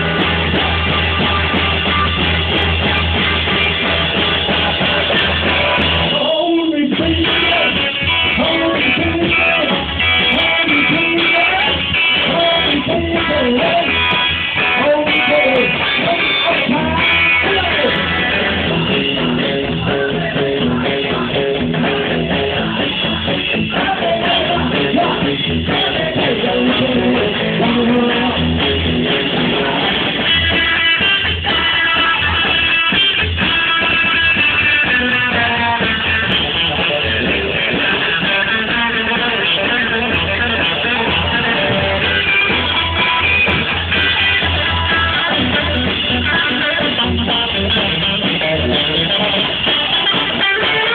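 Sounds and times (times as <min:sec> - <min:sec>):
electric guitar: 0:00.0 - 0:50.9
rock and roll band playing: 0:00.0 - 0:50.9.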